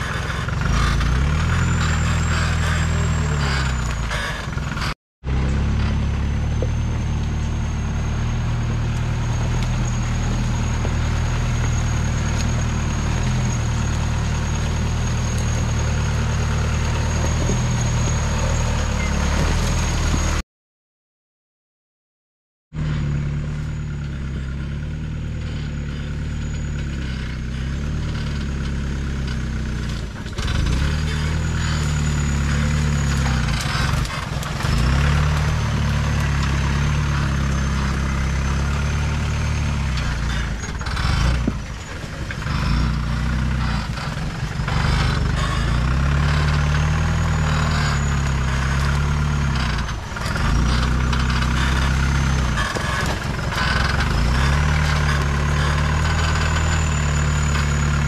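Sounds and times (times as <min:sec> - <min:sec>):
jeep engine at low revs: 0:00.0 - 0:20.4, 0:22.8 - 0:58.0
knocks and scrapes: 0:00.0 - 0:20.4, 0:22.8 - 0:58.0.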